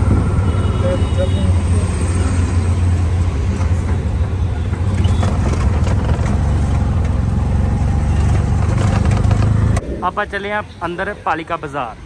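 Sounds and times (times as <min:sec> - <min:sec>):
auto-rickshaw engine droning: 0:00.0 - 0:09.8
road noise: 0:00.0 - 0:12.0.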